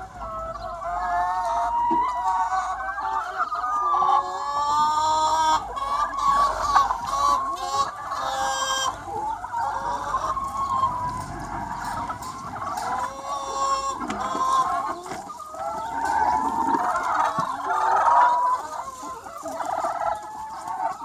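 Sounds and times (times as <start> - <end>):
chickens clucking: 0.0 - 21.0
high-pitched chicken calls: 0.0 - 21.0.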